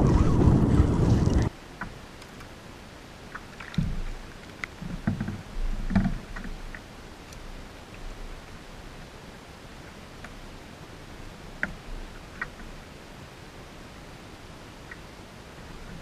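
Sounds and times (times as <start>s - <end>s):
wind and water noise: 0.0s - 16.0s.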